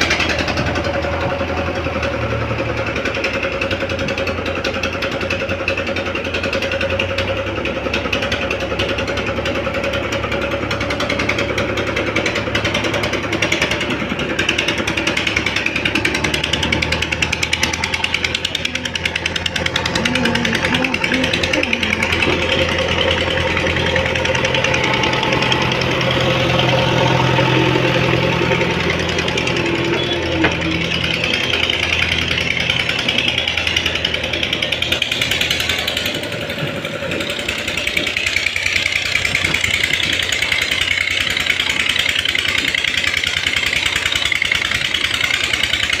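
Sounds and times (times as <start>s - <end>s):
diesel engine clattering: 0.0s - 46.0s.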